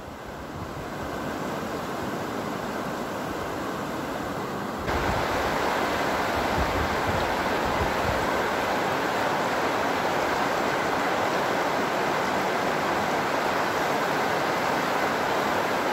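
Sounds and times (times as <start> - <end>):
water rushing over a weir: 0.0 - 15.9.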